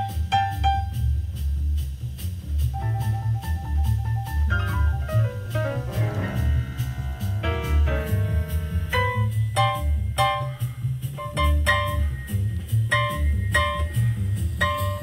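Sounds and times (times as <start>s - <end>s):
instrumental music with bass beat: 0.0s - 15.0s.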